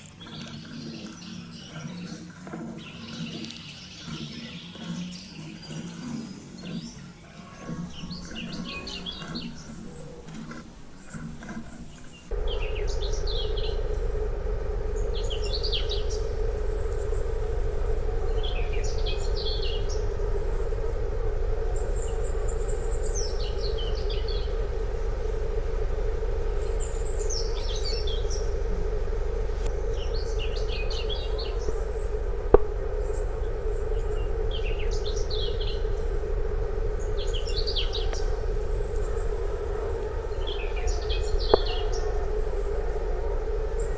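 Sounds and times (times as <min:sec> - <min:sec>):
birds chirping: 0:00.0 - 0:43.9
low background rumble: 0:00.0 - 0:43.9.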